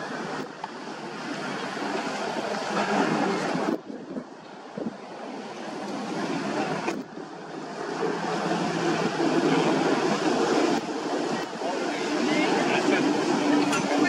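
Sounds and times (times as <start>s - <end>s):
water rushing: 0.0s - 14.0s
wind noise: 0.0s - 14.0s.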